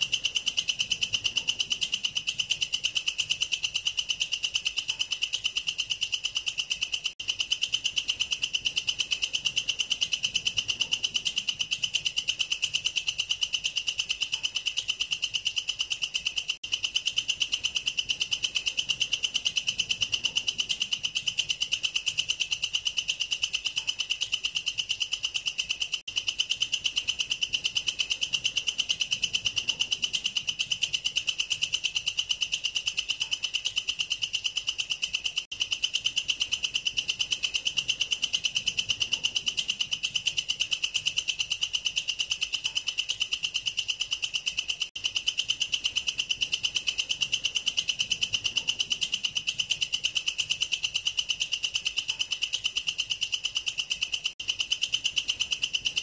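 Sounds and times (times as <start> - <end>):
katydid stridulating: 0.0 - 56.0.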